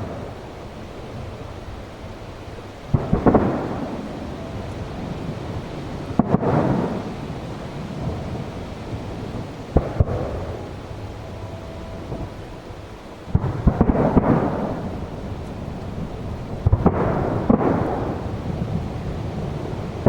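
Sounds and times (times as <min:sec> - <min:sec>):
firework bangs: 0:00.0 - 0:20.0
rolling rumble: 0:00.0 - 0:20.0.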